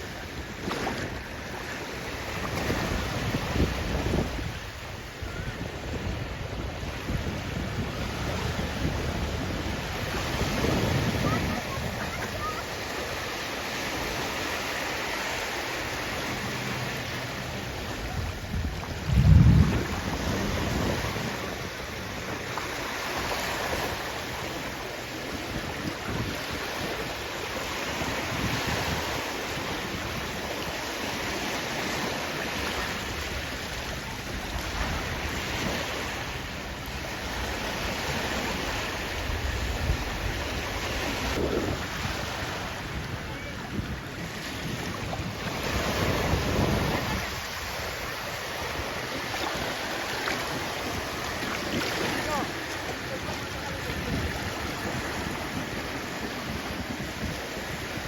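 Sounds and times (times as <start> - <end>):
sea waves washing ashore: 0.0 - 58.0
wind on microphone: 0.0 - 58.0.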